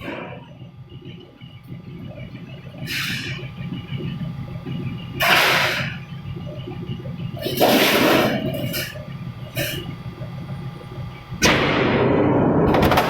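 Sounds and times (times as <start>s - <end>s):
press machine low hum: 0.0s - 13.0s.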